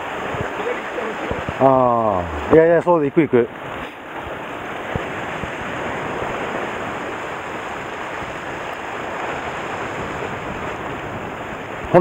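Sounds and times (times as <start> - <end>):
waves washing against rocks: 0.0 - 12.0.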